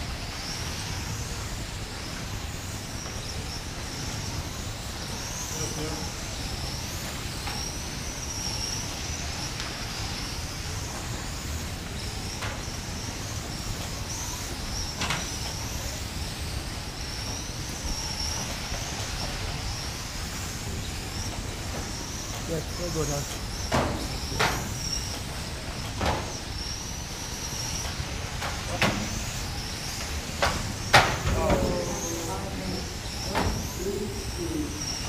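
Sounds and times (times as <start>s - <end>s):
rc car motors whining: 0.0s - 35.0s.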